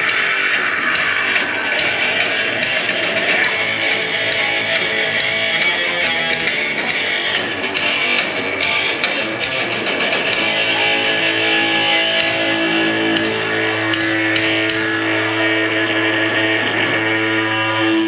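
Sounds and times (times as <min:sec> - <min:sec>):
distorted electric guitar: 0:00.0 - 0:18.0
drums: 0:00.0 - 0:18.0.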